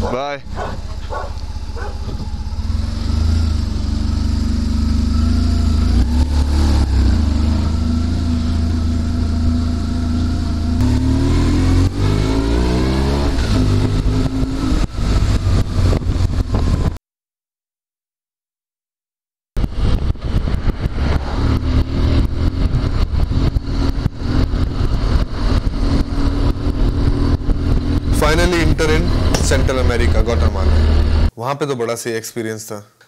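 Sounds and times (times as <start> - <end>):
motorcycle engine revving: 0.0 - 17.0, 19.6 - 31.3.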